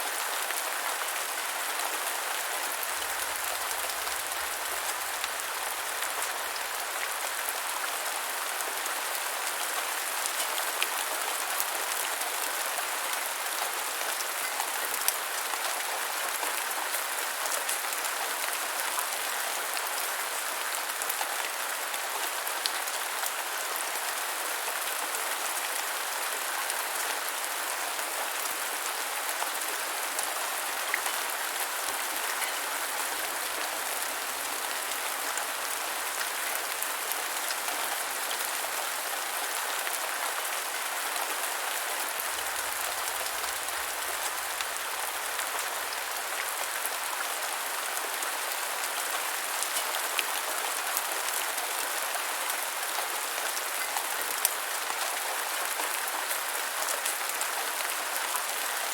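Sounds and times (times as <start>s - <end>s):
rain on a hard surface: 0.0s - 58.9s.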